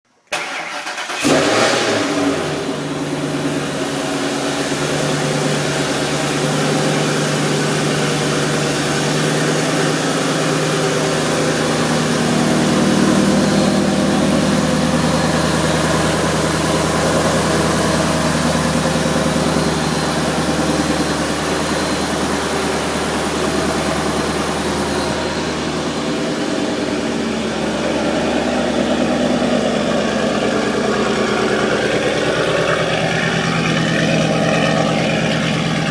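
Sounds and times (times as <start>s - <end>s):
car engine starting and idling: 0.1s - 35.9s.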